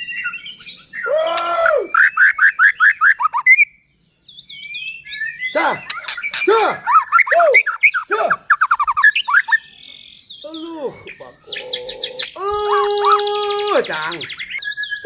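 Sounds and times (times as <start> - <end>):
songbird whistling and trilling: 0.0 - 15.0.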